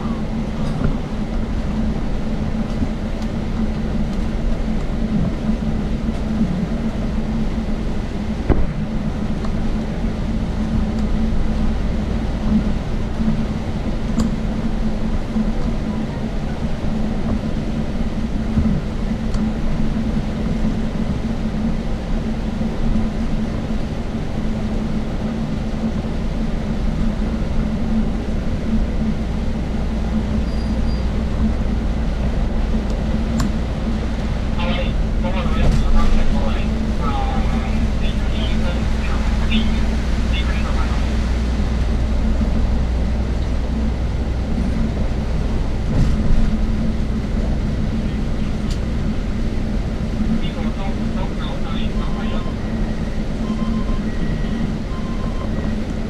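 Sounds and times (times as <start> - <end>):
moving vehicle rumble and hum: 0.0 - 56.0.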